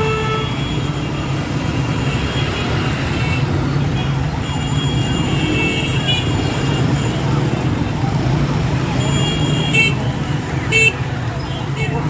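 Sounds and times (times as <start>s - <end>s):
idling vehicle engines rumbling: 0.0s - 12.0s.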